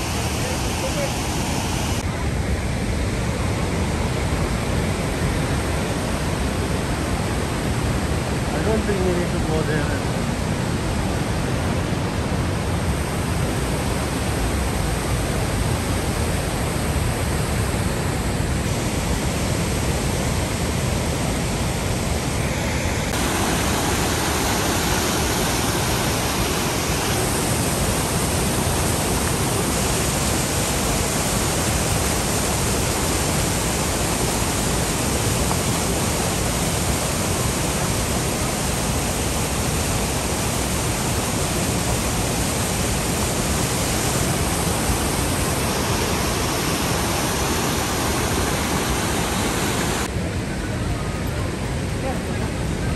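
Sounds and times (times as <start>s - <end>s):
waterfall rushing over rocks: 0.0s - 52.9s.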